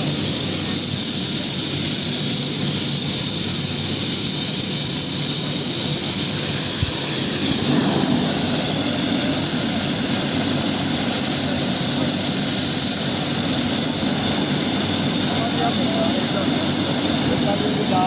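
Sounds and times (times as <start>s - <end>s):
helicopter rotor turning: 0.0s - 18.0s
helicopter turbine whine: 0.0s - 18.0s.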